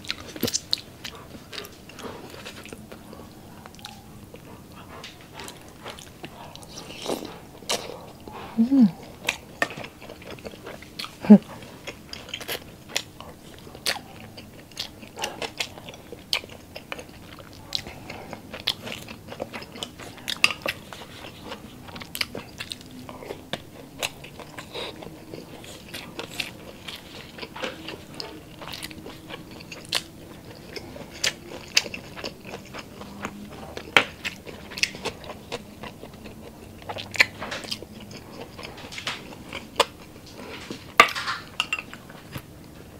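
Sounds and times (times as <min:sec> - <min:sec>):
close chewing and biting: 0:00.0 - 0:42.9.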